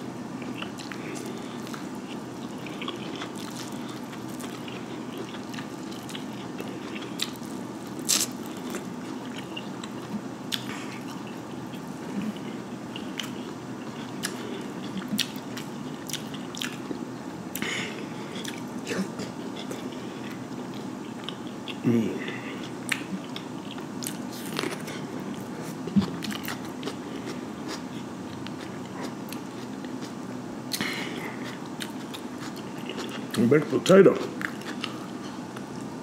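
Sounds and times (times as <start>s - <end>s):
person chewing corn: 0.3s - 36.0s.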